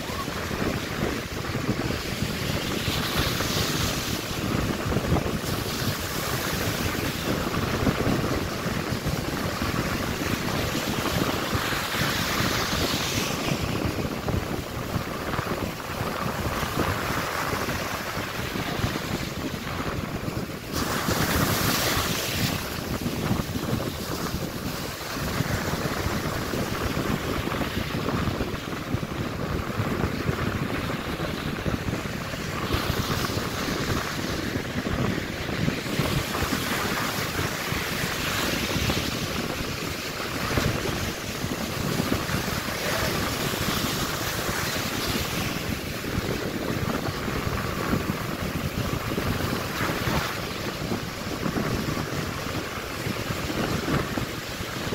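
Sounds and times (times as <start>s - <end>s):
surf washing up a beach: 0.0s - 54.9s
wind buffeting microphone: 0.0s - 54.9s.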